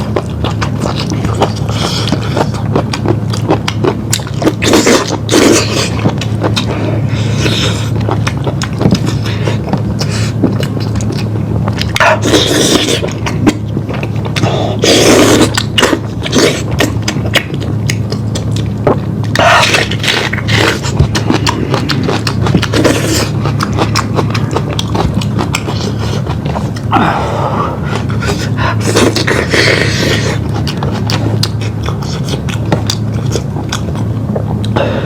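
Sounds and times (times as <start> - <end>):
wet chewing and lip-smacking: 0.0 - 34.8
steady low hum: 0.0 - 35.0.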